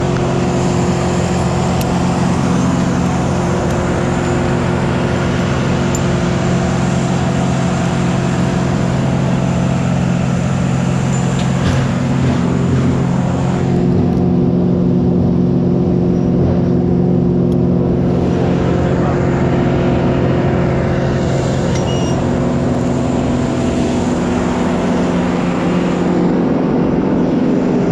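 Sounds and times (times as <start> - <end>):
heavy machine engine humming: 0.0 - 27.9.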